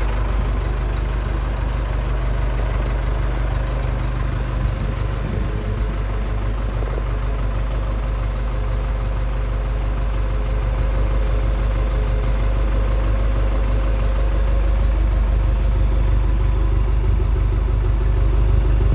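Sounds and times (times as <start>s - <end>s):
backhoe engine idling: 0.0s - 18.9s.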